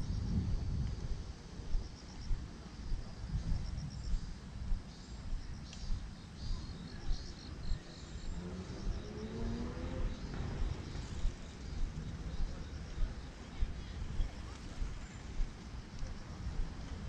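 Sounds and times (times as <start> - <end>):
crickets chirping: 0.0 - 17.0
footsteps on a paved path: 0.6 - 17.0.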